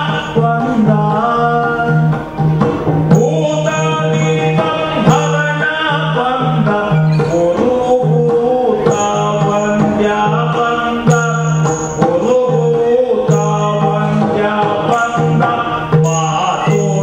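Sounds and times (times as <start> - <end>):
barrel drum rhythm: 0.0 - 17.0
person singing: 0.0 - 17.0
small hand cymbals: 1.7 - 17.0.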